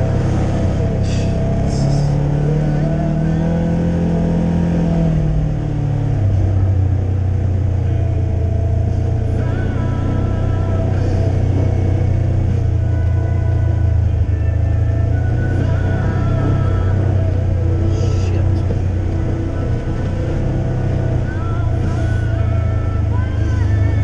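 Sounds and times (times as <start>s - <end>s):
utility vehicle engine running: 0.0s - 24.0s.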